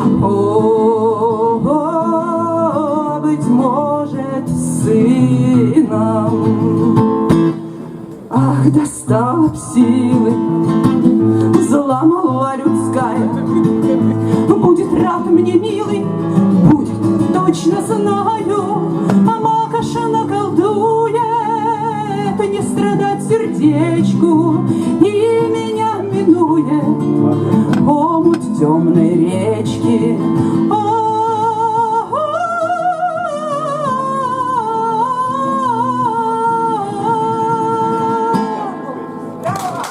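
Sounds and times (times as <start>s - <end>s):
woman singing with vibrato: 0.0s - 7.6s, 8.3s - 39.0s
acoustic guitar: 0.0s - 39.9s.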